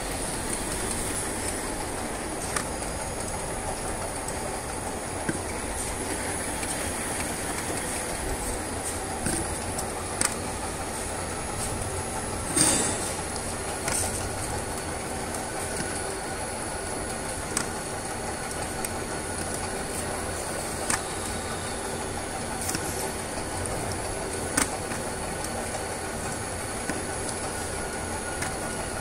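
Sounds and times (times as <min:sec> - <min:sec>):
machinery hum and whine: 0:00.0 - 0:29.0.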